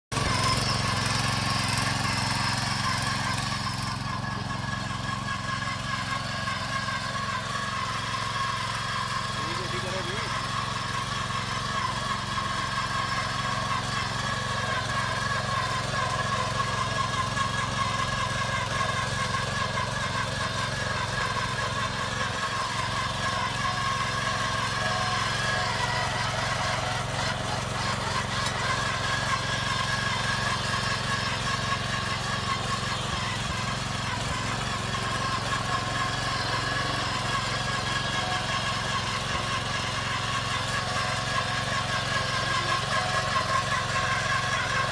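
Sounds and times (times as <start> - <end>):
small engine running steadily: 0.0 - 44.9.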